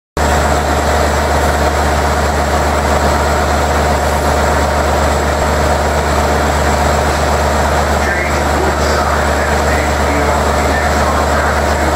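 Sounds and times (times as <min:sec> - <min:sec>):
electric train drone: 0:00.2 - 0:11.9.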